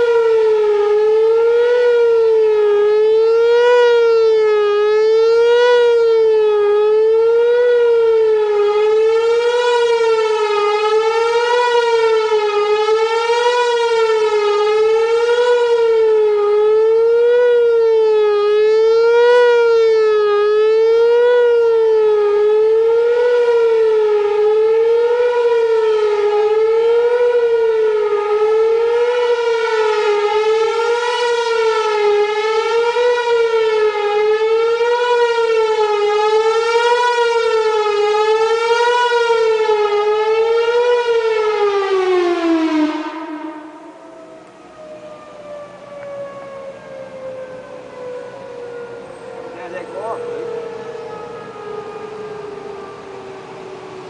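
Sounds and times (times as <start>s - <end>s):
outdoor warning siren wavering: 0.0s - 54.0s.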